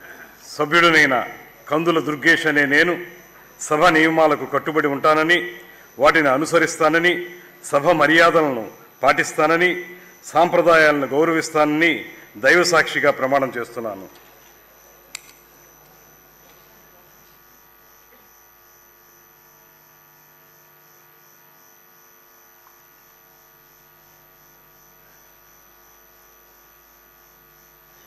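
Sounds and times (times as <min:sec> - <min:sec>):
electrical mains hum: 0:00.0 - 0:28.0
faint pulsing high whine: 0:00.0 - 0:28.0.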